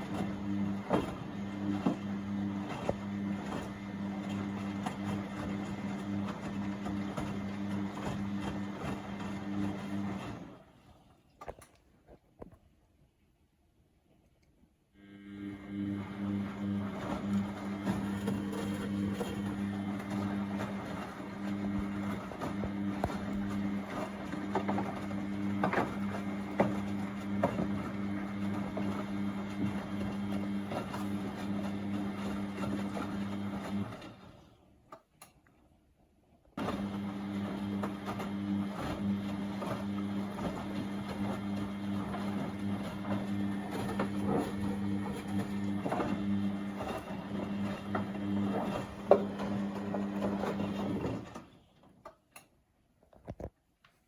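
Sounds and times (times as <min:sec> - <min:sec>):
washing machine motor humming: 0:00.0 - 0:10.7, 0:15.0 - 0:34.5, 0:36.6 - 0:51.9.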